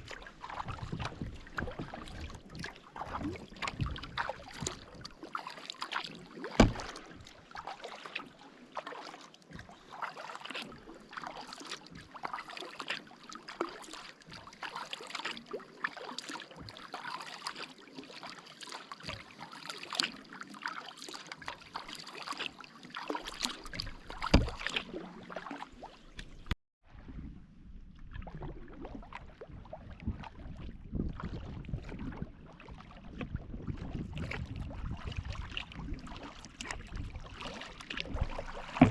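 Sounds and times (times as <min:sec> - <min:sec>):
paddle splashing in water: 0:00.0 - 0:27.2, 0:28.0 - 0:38.9.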